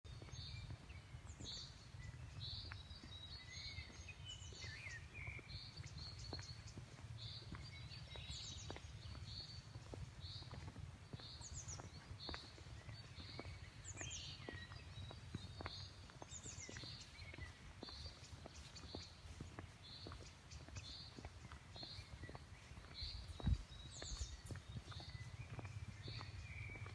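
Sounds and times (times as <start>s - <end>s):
birds chirping: 0.1s - 26.9s.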